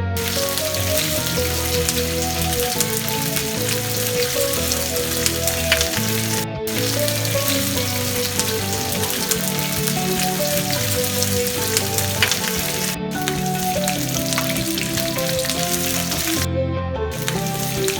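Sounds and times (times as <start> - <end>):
background music: 0.0 - 16.5, 17.1 - 17.9
chicken frying in hot oil: 0.0 - 16.5, 17.1 - 17.9.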